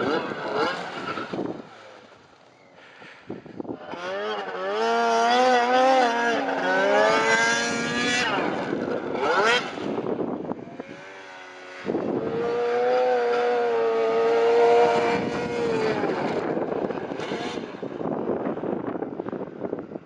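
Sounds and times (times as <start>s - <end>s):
snowmobile engine revving: 0.0s - 2.2s, 2.8s - 19.6s.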